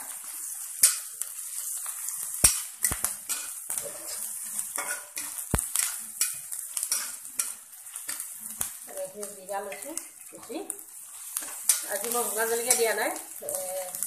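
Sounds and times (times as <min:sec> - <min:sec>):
vegetables sizzling in hot oil: 0:00.0 - 0:14.0
metal spatula scraping a wok: 0:00.2 - 0:08.6, 0:09.6 - 0:13.6.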